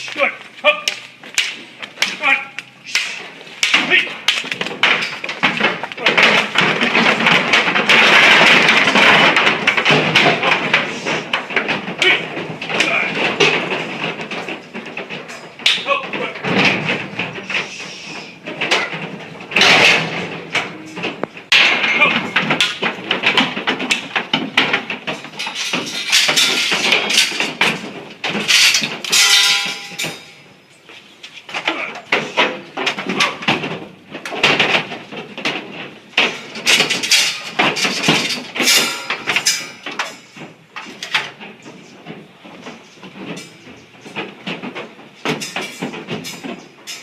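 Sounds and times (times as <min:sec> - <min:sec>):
hooves on metal trailer floor: 0:00.0 - 0:47.0.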